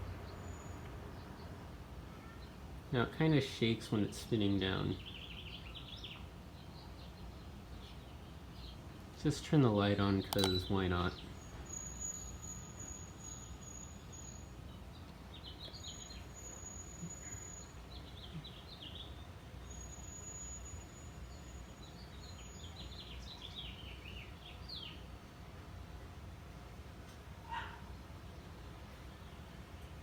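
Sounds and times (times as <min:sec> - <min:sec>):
small birds chirping: 0:00.0 - 0:26.7.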